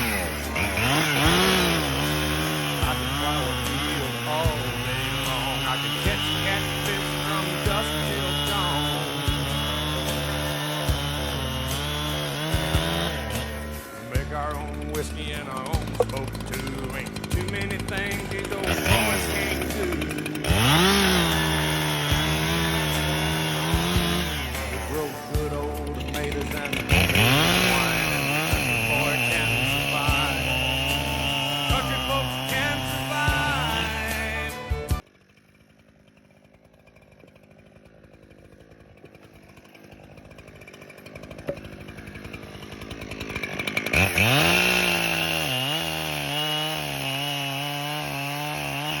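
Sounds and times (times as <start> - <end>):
chainsaw engine revving: 0.0 - 49.0.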